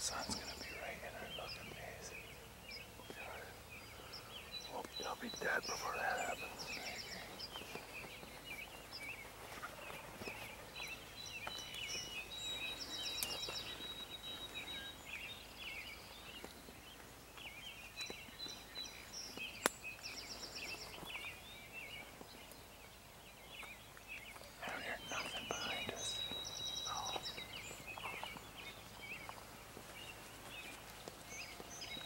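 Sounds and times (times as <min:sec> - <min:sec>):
birds calling and chirping: 0:00.0 - 0:32.0.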